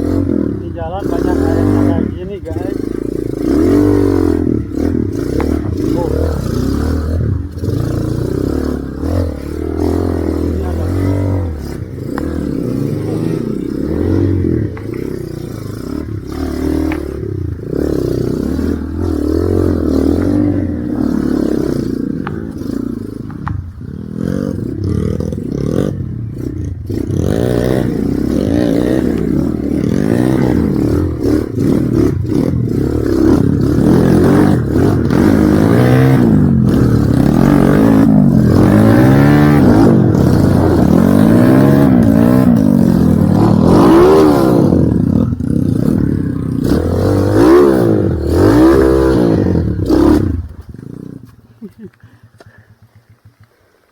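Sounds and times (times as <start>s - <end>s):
motorcycle engine revving: 0.0s - 53.5s.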